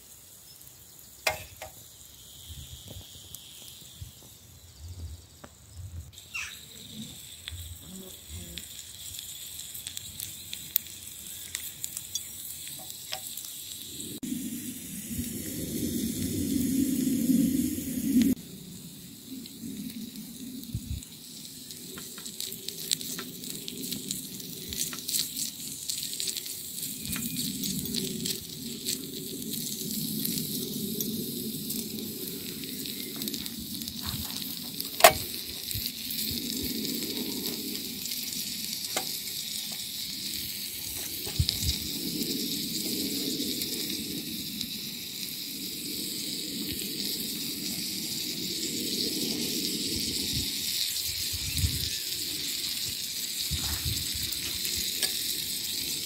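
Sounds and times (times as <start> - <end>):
meat sizzling in a pot: 0.0 - 56.0.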